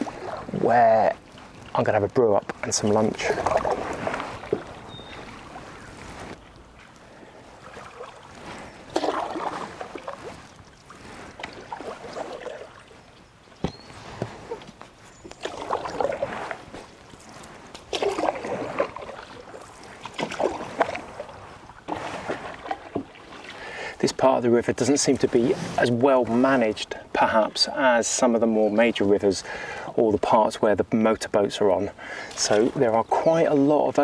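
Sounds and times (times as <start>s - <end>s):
canoe paddle strokes in water: 0.0s - 34.0s.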